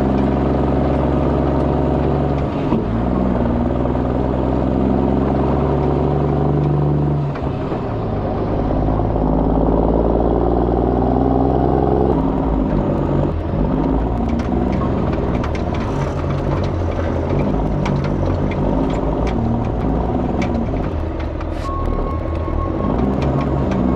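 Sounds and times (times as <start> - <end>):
truck diesel engine under load: 0.0 - 23.9.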